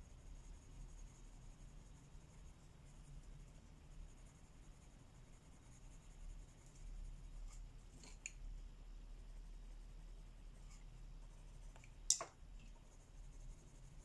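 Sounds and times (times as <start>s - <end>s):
colouring strokes scratching paper: 0.0s - 8.3s, 9.1s - 11.8s, 12.6s - 14.0s.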